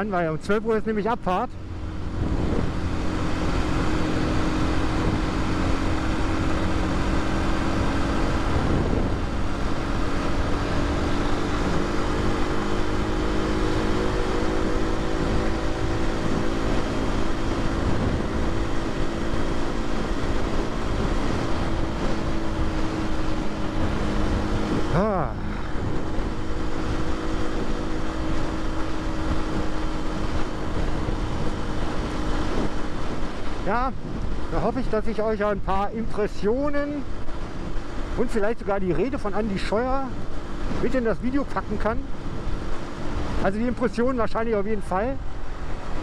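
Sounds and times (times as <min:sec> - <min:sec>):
motorcycle engine running: 0:00.0 - 0:46.0
wind and road rumble: 0:00.0 - 0:46.0.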